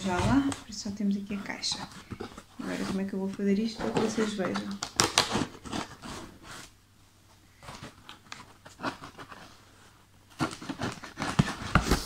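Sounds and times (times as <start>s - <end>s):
hands rustling cardboard box: 0.0s - 6.8s, 7.6s - 12.0s.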